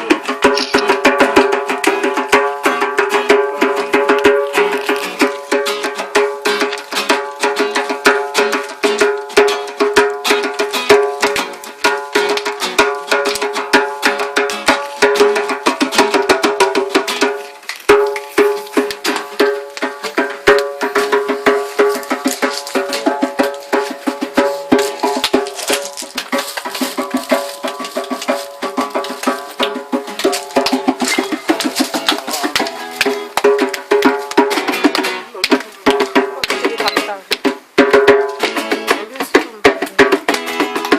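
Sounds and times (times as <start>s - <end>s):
acoustic guitar strumming: 0.0s - 40.9s
djembe hand drumming: 0.0s - 40.9s.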